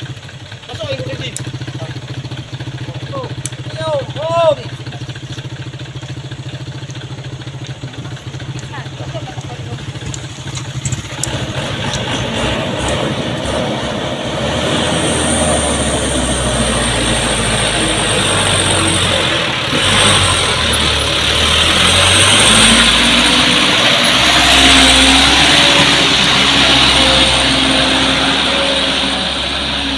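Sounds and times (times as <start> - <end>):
truck diesel engine under load: 0.0 - 29.9.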